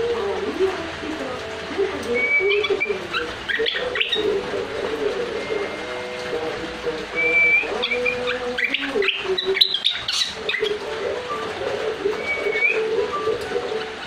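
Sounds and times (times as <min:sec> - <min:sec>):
songbird chirping and whistling: 0:01.8 - 0:14.0.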